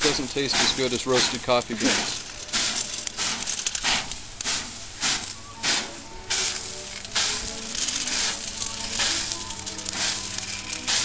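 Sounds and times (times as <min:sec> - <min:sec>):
water spray sizzling on hot metal: 0:00.0 - 0:11.0.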